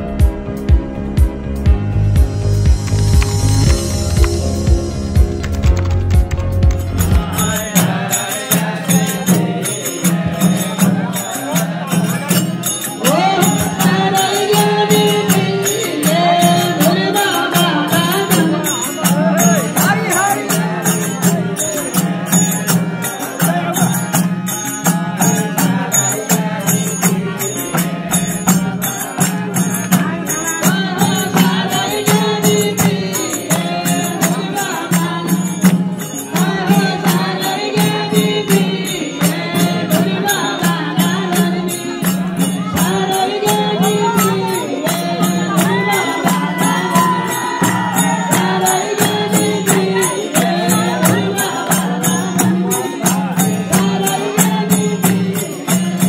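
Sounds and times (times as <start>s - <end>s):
harmonium drone: 0.0s - 56.0s
metallic percussion beat: 0.0s - 56.0s
group singing devotional song: 6.7s - 56.0s.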